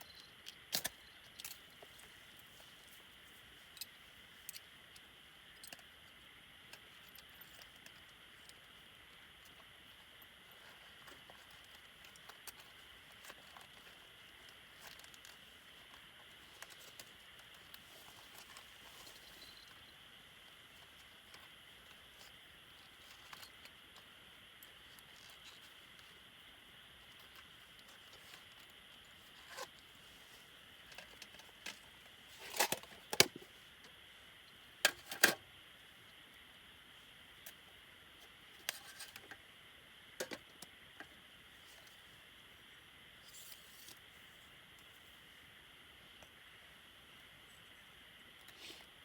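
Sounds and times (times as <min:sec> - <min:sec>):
faint steady hiss: 0:00.0 - 0:49.0.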